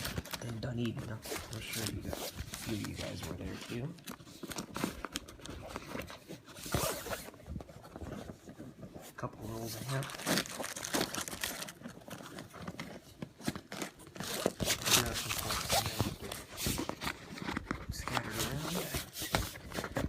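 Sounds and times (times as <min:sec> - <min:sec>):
rustling and crinkling: 0:00.0 - 0:20.0.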